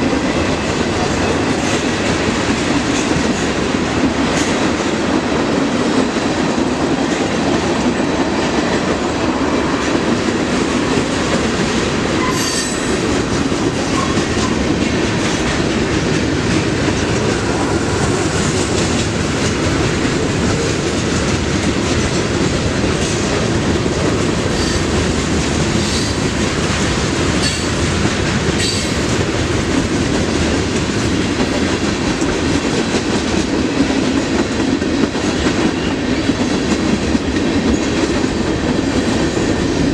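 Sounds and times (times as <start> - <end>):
clickety-clack of rail joints: 0.0 - 39.9
train wheels rumbling on rails: 0.0 - 39.9.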